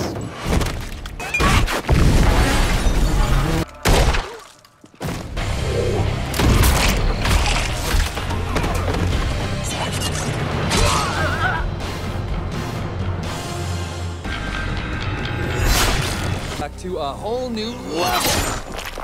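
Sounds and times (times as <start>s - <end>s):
film score music: 0.0s - 19.0s.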